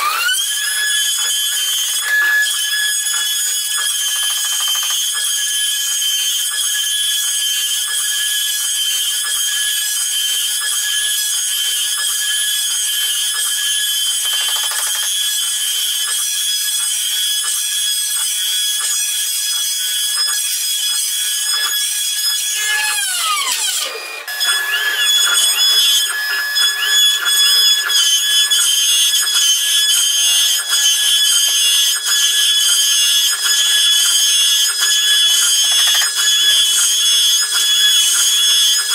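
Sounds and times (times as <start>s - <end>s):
cnc router spindle whining: 0.0s - 38.9s.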